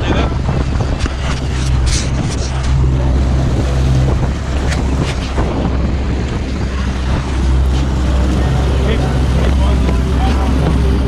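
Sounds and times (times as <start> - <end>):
outboard motor running: 0.0 - 11.0
water rushing past hull: 0.0 - 11.0
wind buffeting microphone: 0.0 - 11.0.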